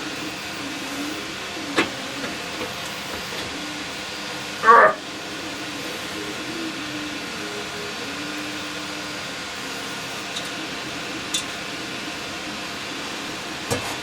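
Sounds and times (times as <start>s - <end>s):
steady fan-like hiss: 0.0s - 14.0s.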